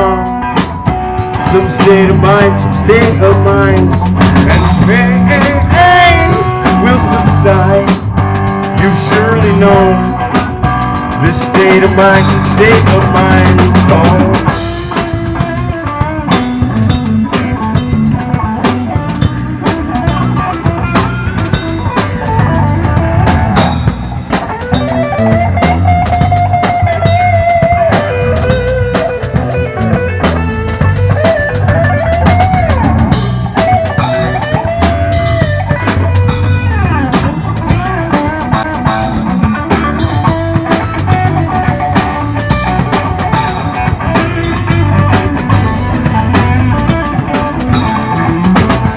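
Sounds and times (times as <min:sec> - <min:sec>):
drum kit beat: 0:00.0 - 0:48.9
electric guitar: 0:00.0 - 0:48.9.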